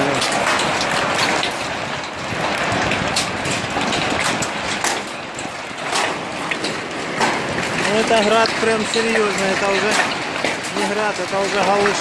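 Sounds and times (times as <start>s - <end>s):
hailstones clacking: 0.0s - 12.0s
heavy hail roaring: 0.0s - 12.0s.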